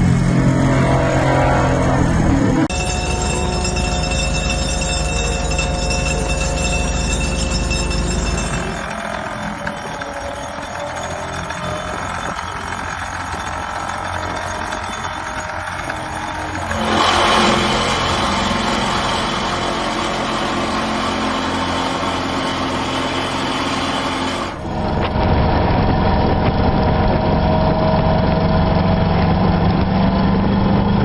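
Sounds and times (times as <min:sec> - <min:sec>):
vibratory pile hammer humming: 0:00.0 - 0:29.8.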